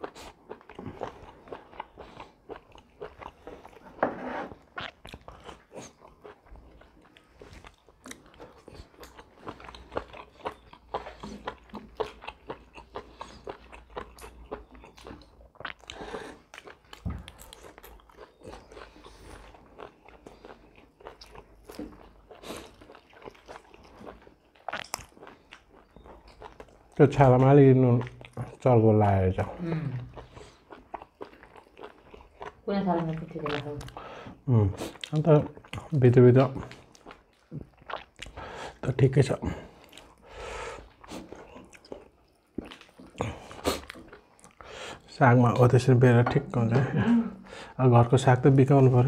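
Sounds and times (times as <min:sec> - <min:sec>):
crunching and chewing food: 0:00.0 - 0:49.0.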